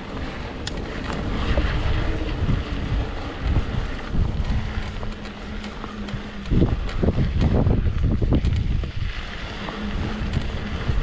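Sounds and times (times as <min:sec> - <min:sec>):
bike rumbling on dirt trail: 0:00.0 - 0:11.0
wind buffeting microphone: 0:00.0 - 0:11.0.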